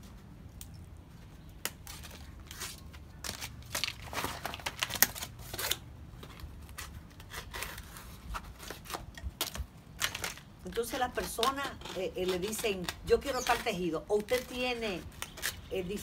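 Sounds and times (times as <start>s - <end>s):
dry leaf crackling and tearing: 1.4s - 16.0s.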